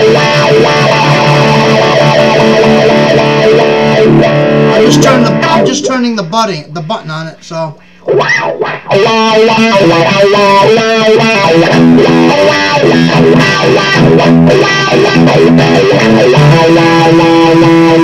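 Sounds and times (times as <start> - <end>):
electric guitar with wah: 0.0 - 6.9, 7.8 - 18.0.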